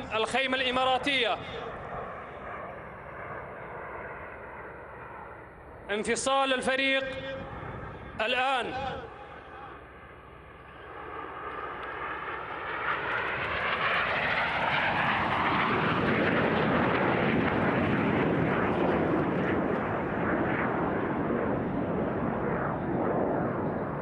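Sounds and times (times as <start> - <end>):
jets flying past roaring: 0.0 - 24.0.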